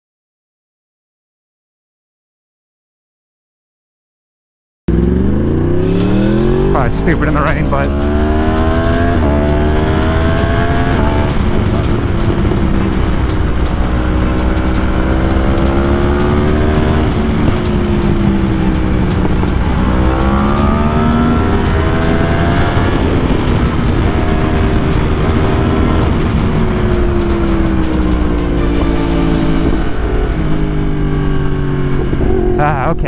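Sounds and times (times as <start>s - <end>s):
low wind rumble: 4.9s - 33.0s
motorcycle engine accelerating hard: 4.9s - 33.0s.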